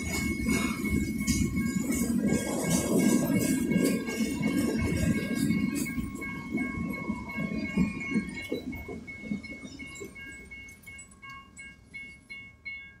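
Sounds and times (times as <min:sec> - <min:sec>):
train wheels clattering over rails: 0:00.0 - 0:12.4
crossing warning bell ringing: 0:00.0 - 0:13.0.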